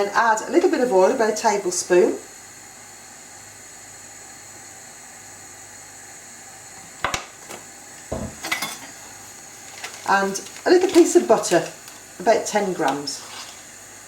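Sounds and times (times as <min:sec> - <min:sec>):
oil sizzling in frying pan: 0:00.0 - 0:14.0.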